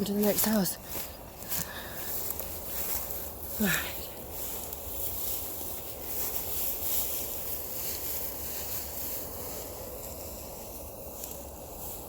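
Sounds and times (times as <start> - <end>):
high-pitched night ambience hiss: 0.0 - 12.0.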